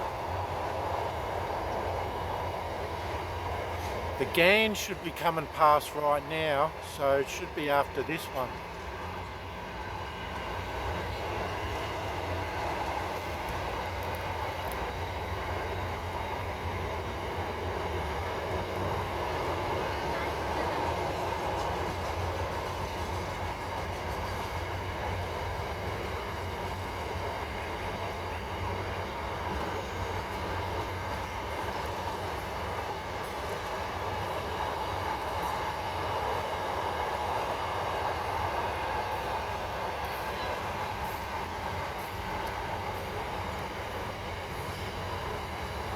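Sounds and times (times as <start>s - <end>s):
train wheels rumbling: 0.0s - 45.9s.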